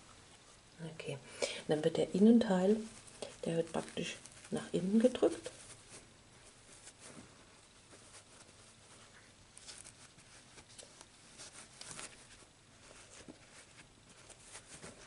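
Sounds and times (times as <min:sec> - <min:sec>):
hands rustling yarn: 0:00.0 - 0:15.0.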